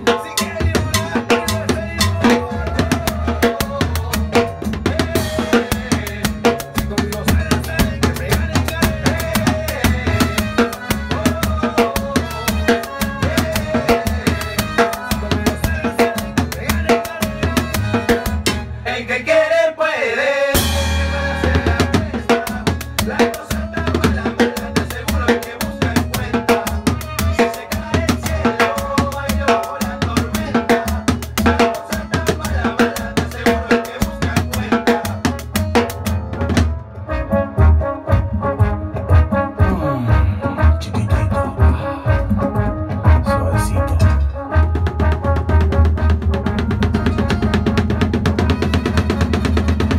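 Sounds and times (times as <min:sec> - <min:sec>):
salsa music with horns: 0:00.0 - 0:19.5, 0:20.5 - 0:49.9
recorded band track: 0:00.0 - 0:49.9.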